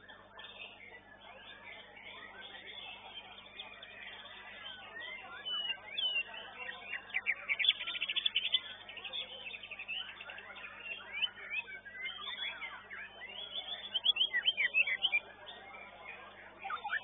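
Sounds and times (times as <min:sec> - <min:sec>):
birds singing chirps and trills: 0:00.0 - 0:17.0.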